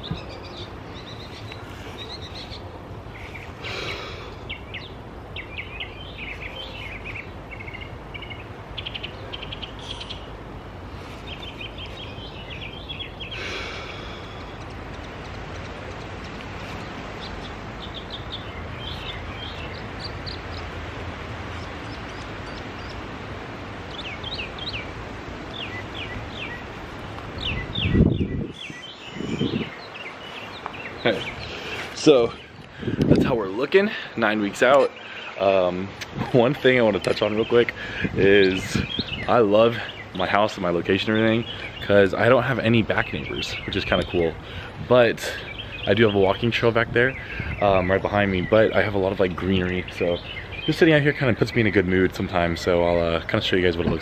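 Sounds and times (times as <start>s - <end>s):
birds chirping and trilling: 0.0s - 54.0s
outdoor background noise: 0.0s - 54.0s.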